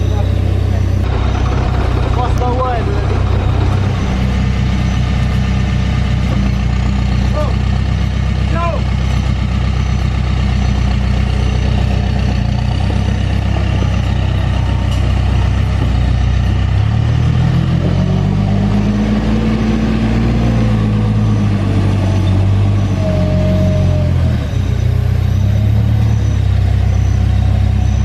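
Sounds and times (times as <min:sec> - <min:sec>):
diesel engine running and revving: 0:00.0 - 0:28.0.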